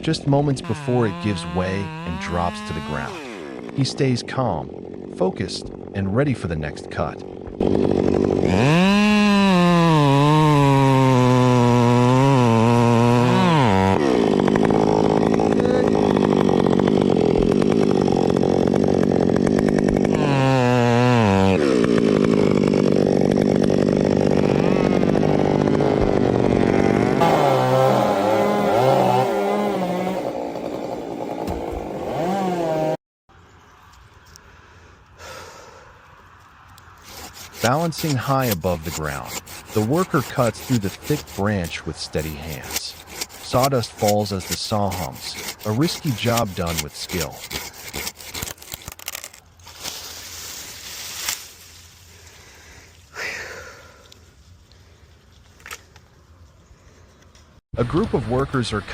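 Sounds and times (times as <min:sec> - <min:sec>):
chainsaw cutting: 0:00.0 - 0:33.0, 0:36.9 - 0:54.2.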